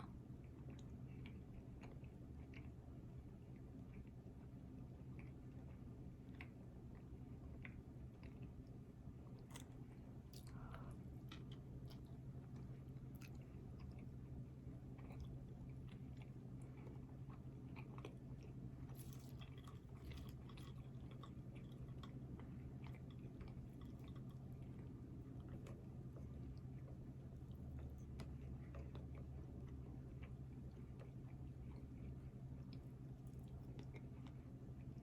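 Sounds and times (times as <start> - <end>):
person chewing food: 0.0 - 35.0
steady low hum: 0.0 - 35.0.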